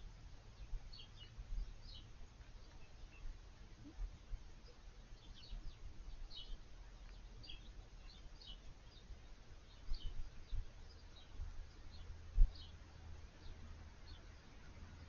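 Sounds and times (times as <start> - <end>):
small bird chirping: 0.0 - 15.0
steady low rumble: 0.0 - 15.0.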